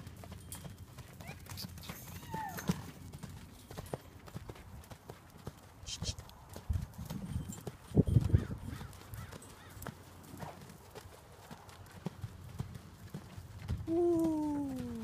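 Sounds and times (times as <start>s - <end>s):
horse hoofbeats cantering: 0.0s - 15.0s.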